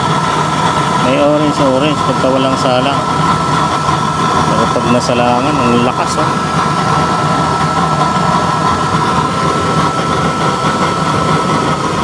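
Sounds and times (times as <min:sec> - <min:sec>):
blower whining: 0:00.0 - 0:12.0
burner flame burning: 0:00.0 - 0:12.0.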